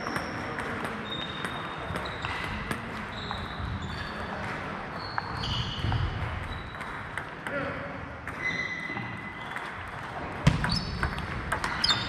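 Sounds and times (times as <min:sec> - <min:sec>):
table tennis balls bouncing: 0:00.0 - 0:12.0.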